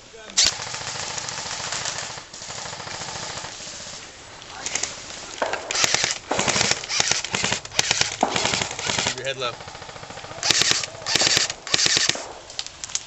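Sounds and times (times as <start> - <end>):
airsoft guns automatic fire: 0.4 - 4.0, 4.7 - 12.6.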